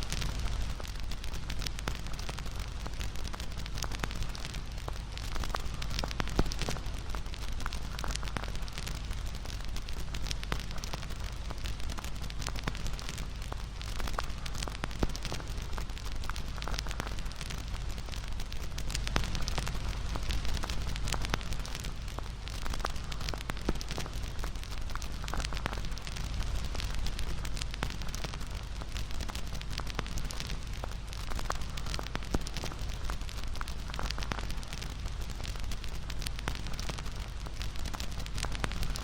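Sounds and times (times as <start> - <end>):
sharp snaps and pops: 0.0 - 39.0
wood fire crackling: 0.0 - 39.0.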